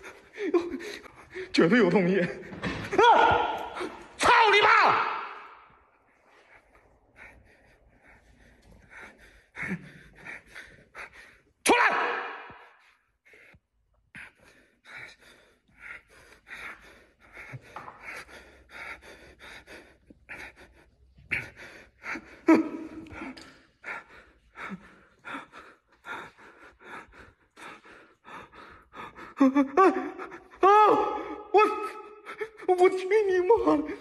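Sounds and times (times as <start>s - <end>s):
man breathing hard: 0.0s - 1.6s, 5.6s - 11.6s, 12.5s - 32.7s.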